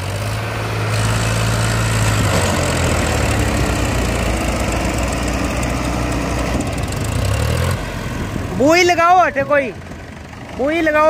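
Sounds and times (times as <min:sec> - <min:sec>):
diesel tractor engines under load: 0:00.0 - 0:11.0.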